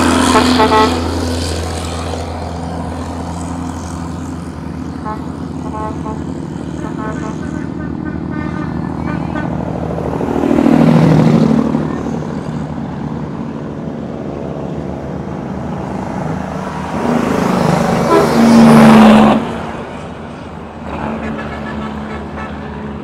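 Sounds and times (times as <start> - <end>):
truck diesel engine pulling hard: 0.0 - 23.0.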